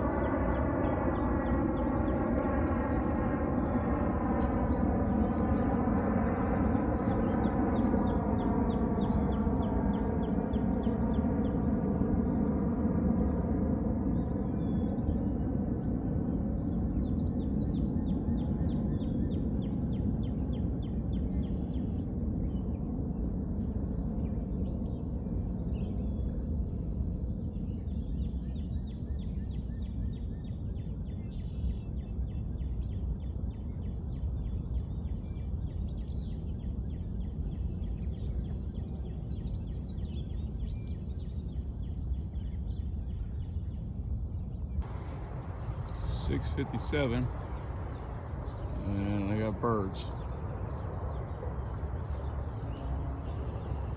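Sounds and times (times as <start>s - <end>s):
steady low outdoor noise: 0.0s - 53.9s.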